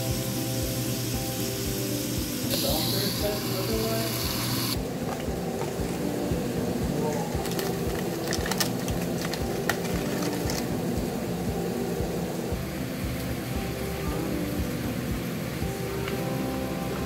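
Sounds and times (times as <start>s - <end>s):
background music with beat: 0.0s - 17.0s
meat sizzling on grill: 0.0s - 17.0s.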